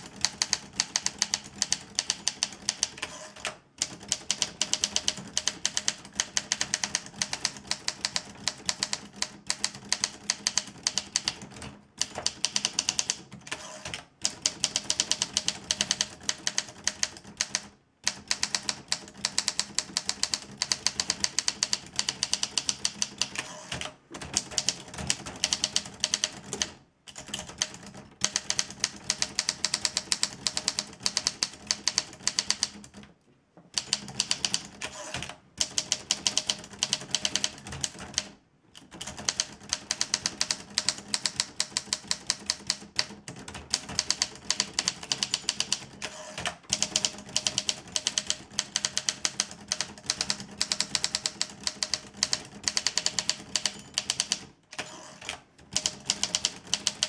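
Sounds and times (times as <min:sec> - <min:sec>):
typewriter keystrokes clattering: 0:00.0 - 0:33.0, 0:33.8 - 0:57.0.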